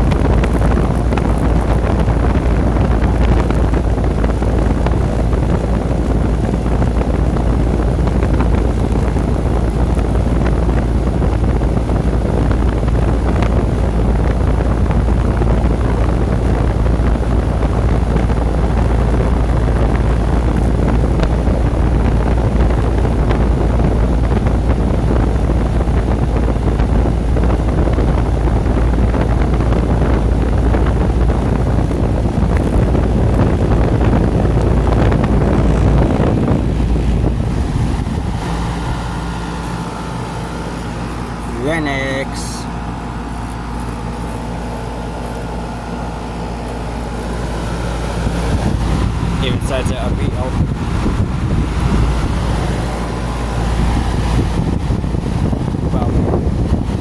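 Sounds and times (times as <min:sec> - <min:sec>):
compressor humming: 0:00.0 - 0:57.0
outdoor fan whooshing: 0:00.0 - 0:57.0
wind buffeting microphone: 0:00.0 - 0:57.0.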